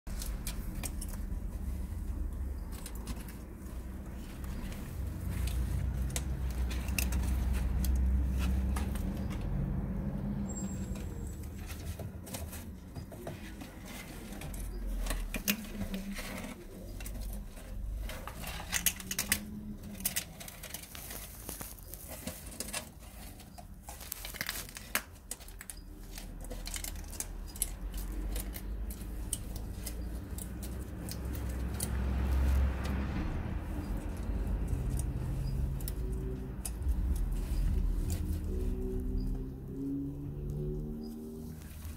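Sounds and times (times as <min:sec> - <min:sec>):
lizards crunching snail shells: 0:00.1 - 0:41.9.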